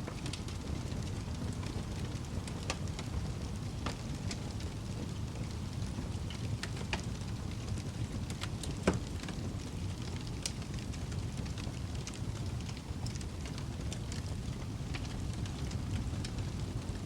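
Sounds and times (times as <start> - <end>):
low rumble of flames: 0.0 - 17.0
wood fire crackling: 0.0 - 17.0
sharp pops from fire: 0.1 - 17.0.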